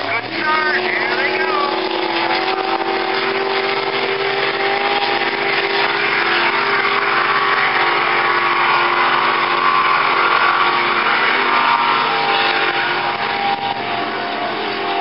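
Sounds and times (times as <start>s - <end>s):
racing powerboat engines droning: 0.0s - 15.0s.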